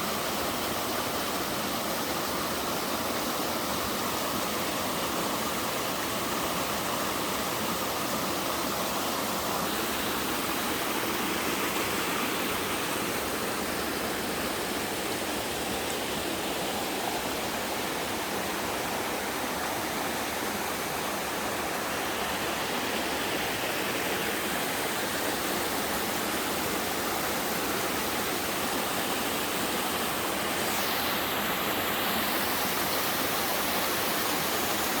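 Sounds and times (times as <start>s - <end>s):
waterfall cascading over rock: 0.0s - 35.0s.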